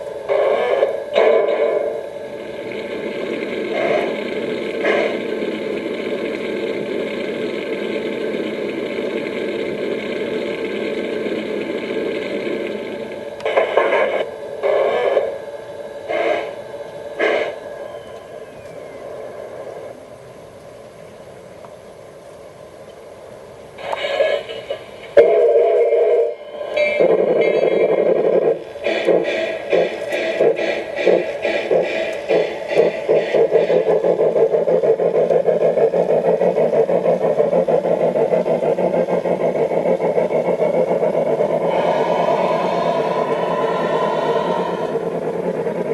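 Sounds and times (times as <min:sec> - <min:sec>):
tinny model locomotive sounds: 0:00.0 - 0:21.0, 0:23.6 - 0:45.9
faint steady hum: 0:00.0 - 0:45.9.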